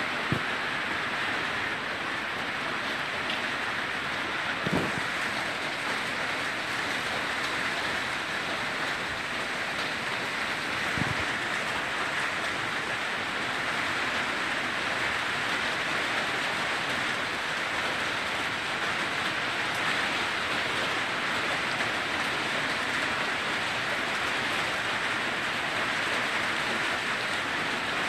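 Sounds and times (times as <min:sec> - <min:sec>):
heavy rain hiss: 0:00.0 - 0:28.0.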